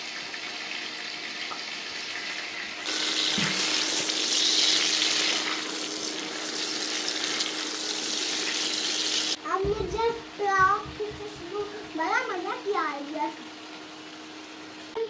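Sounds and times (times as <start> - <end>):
food sizzling in hot oil: 0.0 - 9.4, 11.3 - 15.0.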